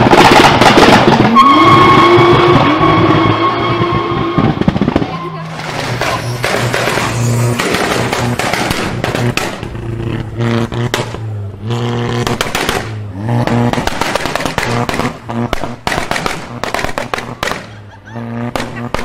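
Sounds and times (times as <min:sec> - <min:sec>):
car engine revving: 0:00.0 - 0:19.0
exhaust crackles and pops: 0:00.0 - 0:19.0.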